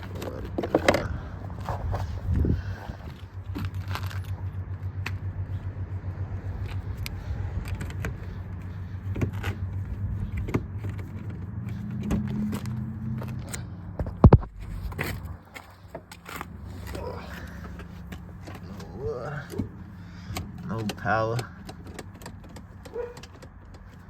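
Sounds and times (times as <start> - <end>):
car engine cranking on starter: 0.0 - 24.0.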